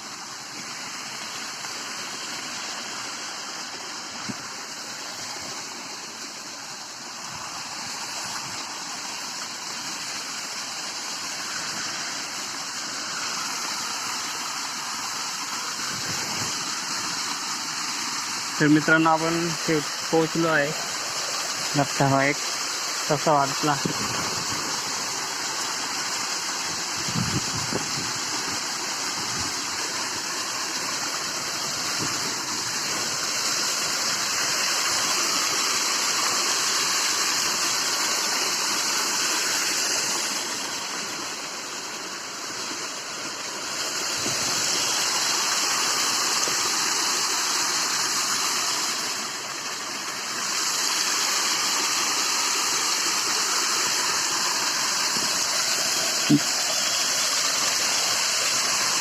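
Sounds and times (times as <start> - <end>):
waterfall pouring: 0.0 - 59.0.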